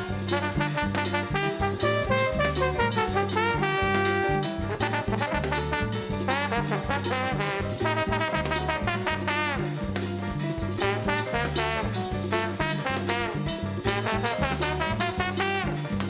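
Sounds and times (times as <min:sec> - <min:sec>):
upbeat brass jazz music: 0:00.0 - 0:16.0.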